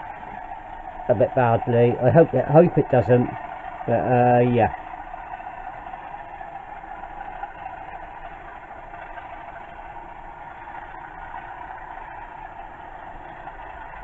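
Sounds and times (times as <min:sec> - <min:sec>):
diesel engine idling from small speaker: 0:00.0 - 0:14.0.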